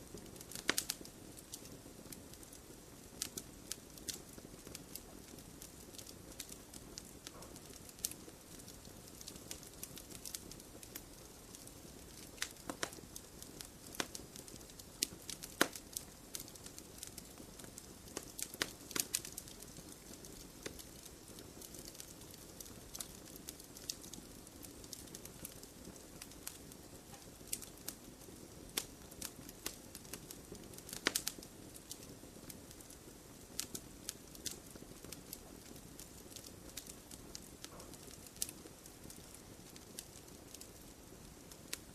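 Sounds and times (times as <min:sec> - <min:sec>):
low flame hiss: 0:00.0 - 0:41.9
wood fire crackling and popping: 0:00.0 - 0:41.9.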